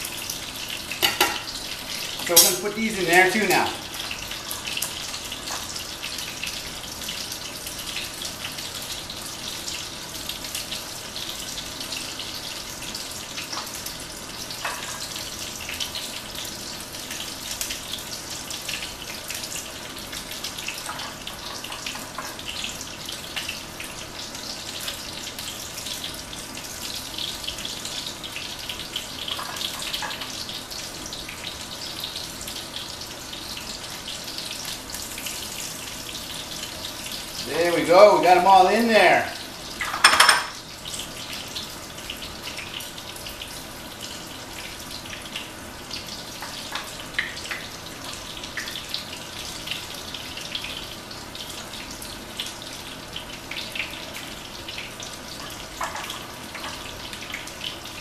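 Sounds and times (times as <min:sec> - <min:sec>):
fish frying in hot oil: 0:00.0 - 0:58.0.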